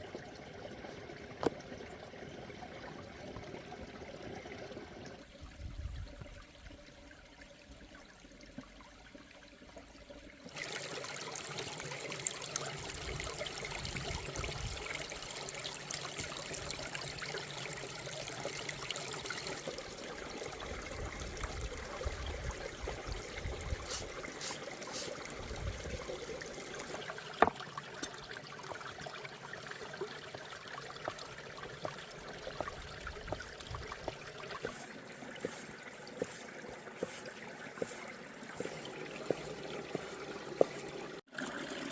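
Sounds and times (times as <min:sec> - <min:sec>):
stream water flowing: 0:00.0 - 0:41.9.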